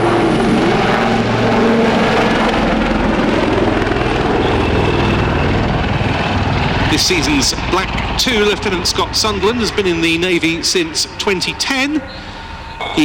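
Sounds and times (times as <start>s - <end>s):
helicopter rotor beat: 0.0s - 13.0s
helicopter turbine noise: 0.0s - 13.0s.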